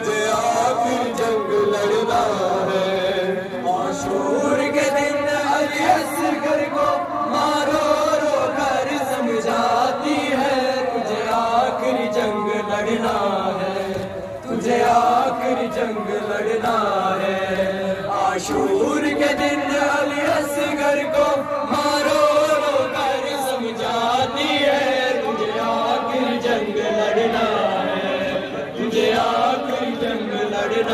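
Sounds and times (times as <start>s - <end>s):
men chanting a lament: 0.0s - 30.9s.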